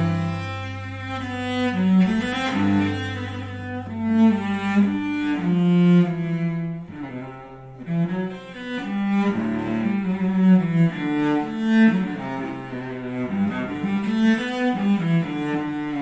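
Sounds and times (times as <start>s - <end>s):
bowed cello melody: 0.0s - 16.0s.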